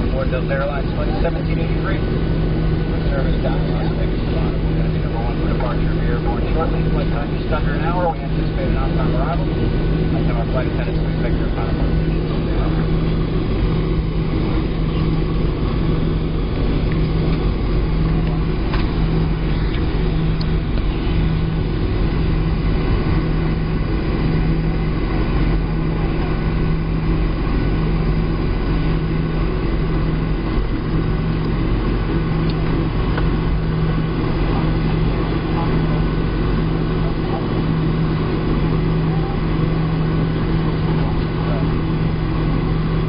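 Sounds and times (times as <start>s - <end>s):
airplane cabin rumble: 0.0s - 43.0s
pulsing low hum: 0.0s - 43.0s.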